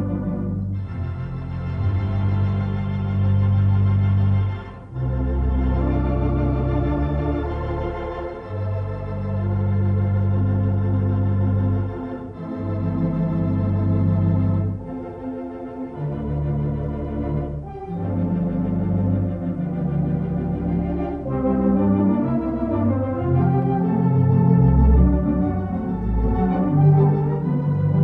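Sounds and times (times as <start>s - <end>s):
organ playing slow chords: 0.0s - 28.0s.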